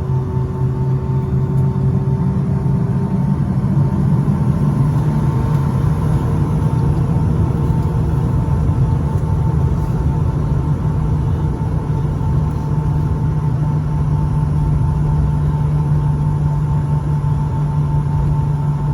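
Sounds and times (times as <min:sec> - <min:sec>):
aircraft cabin engine rumble: 0:00.0 - 0:18.9.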